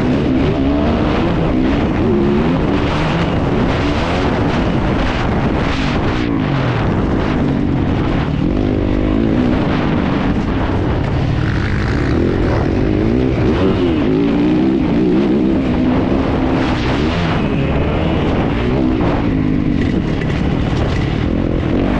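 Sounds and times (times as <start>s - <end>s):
motocross engine revving: 0.0s - 10.2s, 10.8s - 20.0s.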